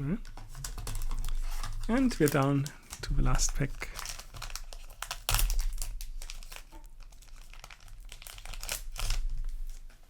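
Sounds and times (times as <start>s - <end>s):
foil wrapper crinkling: 0.2s - 10.0s.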